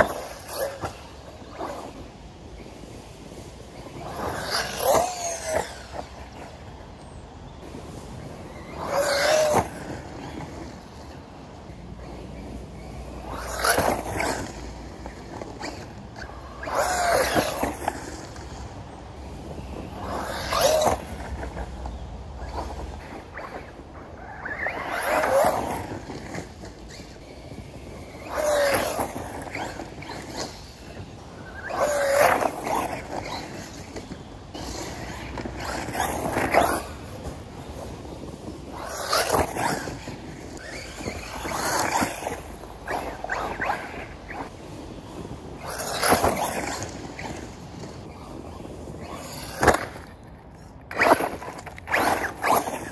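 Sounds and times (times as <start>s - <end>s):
tyres scrabbling over dirt: 7.5s - 52.9s.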